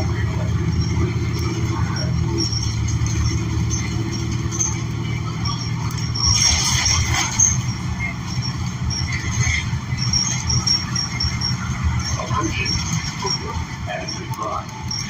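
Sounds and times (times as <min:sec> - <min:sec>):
bus engine drone: 0:00.0 - 0:15.0
road rumble: 0:00.0 - 0:15.0.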